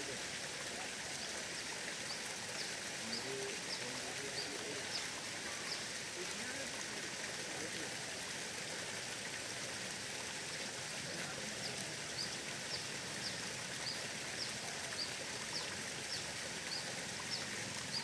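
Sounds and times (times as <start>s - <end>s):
rushing outdoor hiss: 0.0s - 18.0s.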